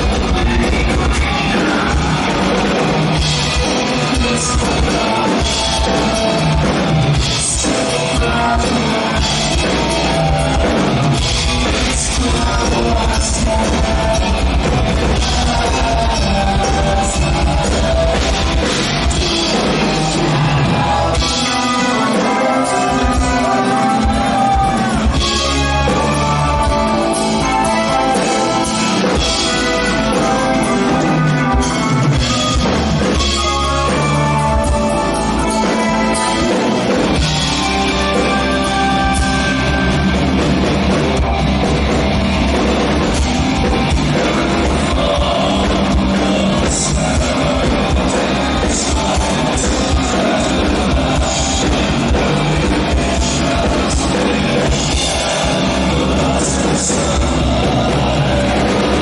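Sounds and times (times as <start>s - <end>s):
metal band playing live: 0.0s - 59.0s
person singing: 0.0s - 59.0s.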